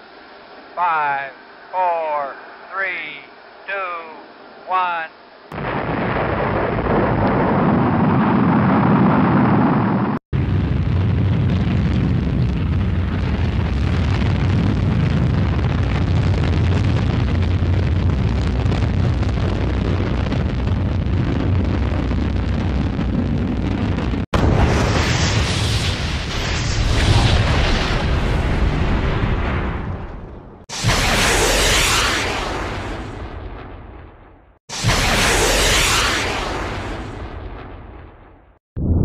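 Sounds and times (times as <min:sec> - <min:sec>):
rocket engine roar: 0:00.0 - 0:38.2.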